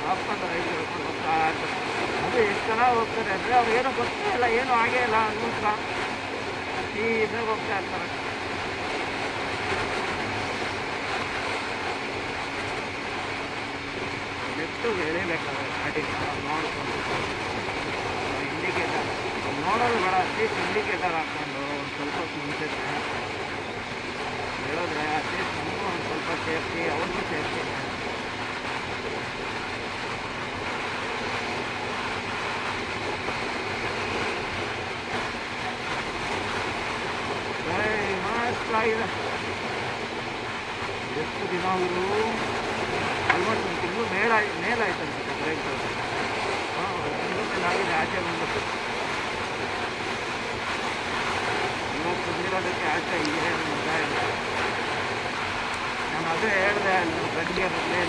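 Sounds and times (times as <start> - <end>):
motorcycle cruising: 0.0 - 58.0
wind rush on microphone: 0.0 - 58.0.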